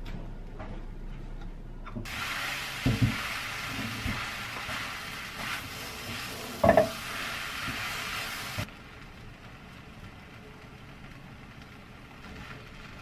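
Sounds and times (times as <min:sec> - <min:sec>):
rice sizzling in a pan: 0:02.0 - 0:13.0.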